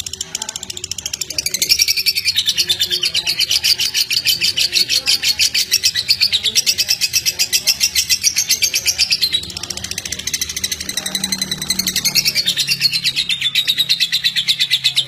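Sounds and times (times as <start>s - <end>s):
lovebird chattering trill: 0.0s - 15.0s.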